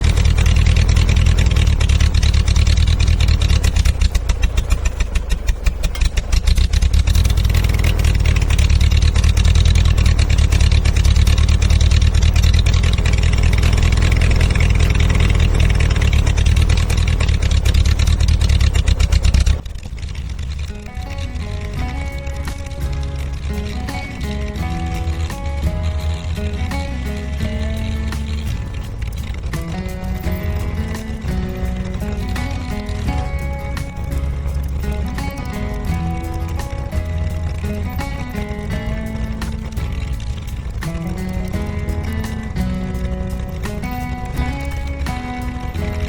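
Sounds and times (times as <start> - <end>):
engine running: 0.0 - 46.0.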